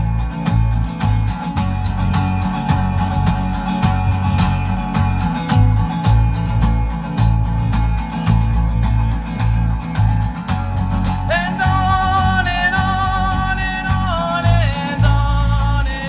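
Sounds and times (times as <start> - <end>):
acoustic guitar song: 0.0 - 16.0.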